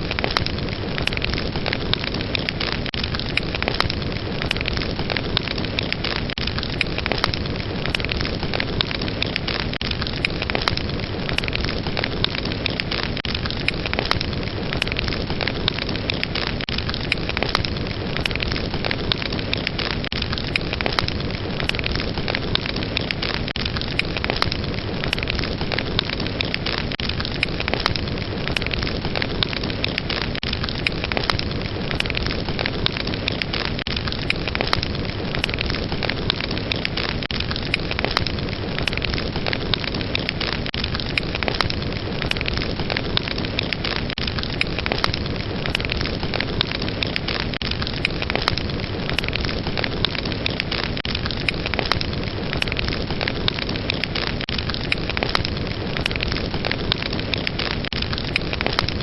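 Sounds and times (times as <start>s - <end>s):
fire burning with crackles: 0.0s - 59.0s
wood crackling and popping: 0.0s - 59.0s.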